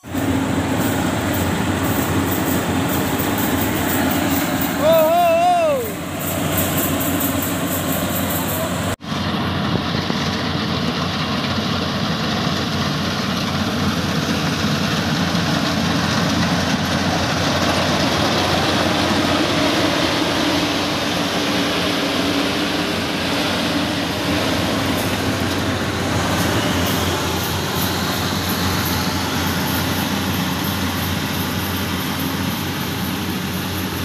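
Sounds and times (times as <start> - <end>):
cutting and threshing machinery: 0.0 - 34.0
diesel engine hum: 0.0 - 34.0.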